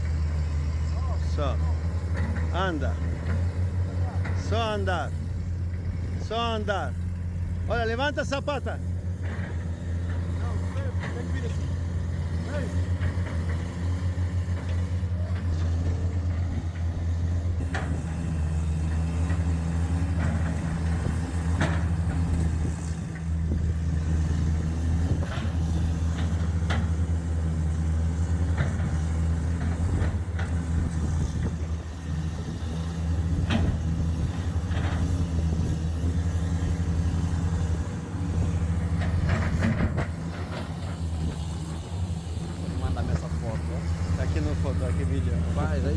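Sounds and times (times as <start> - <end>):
heavy machinery engine droning: 0.0 - 45.9.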